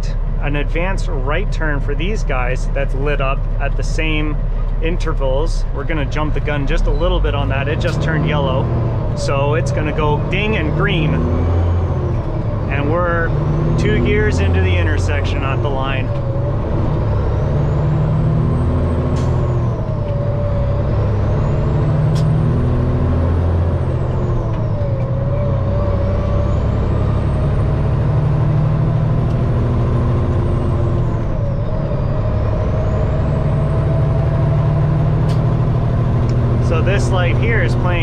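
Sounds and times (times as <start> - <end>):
diesel truck engine accelerating: 0.0 - 38.0
high engine whine: 0.0 - 38.0.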